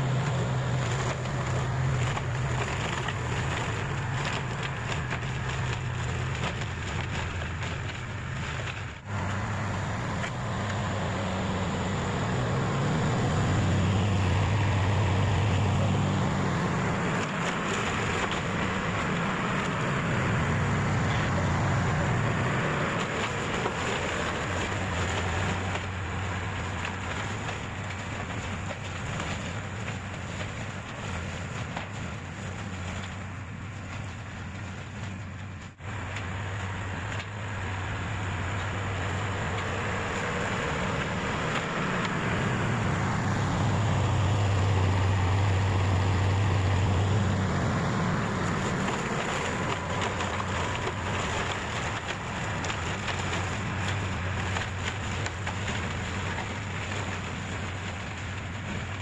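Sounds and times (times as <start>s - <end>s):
heavy machine engine under load: 0.0s - 59.0s.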